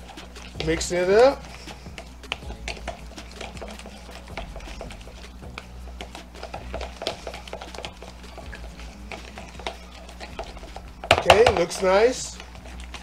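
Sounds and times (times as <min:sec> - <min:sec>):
sauce mixing clicks and taps: 0:00.0 - 0:13.0.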